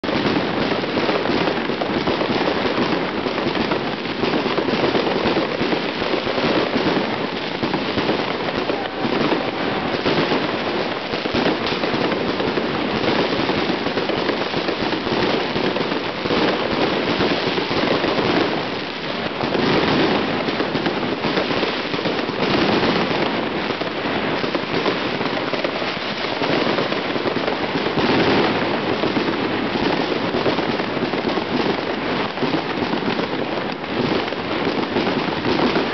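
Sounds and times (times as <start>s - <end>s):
fireworks crackling and popping: 0.0s - 35.9s.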